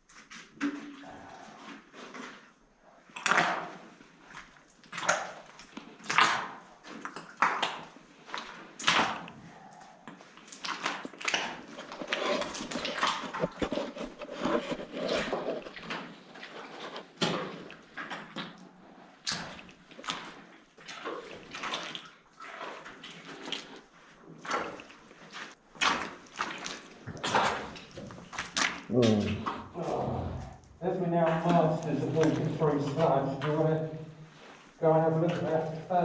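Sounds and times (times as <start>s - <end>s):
boots sloshing through sludge: 0.1s - 36.0s.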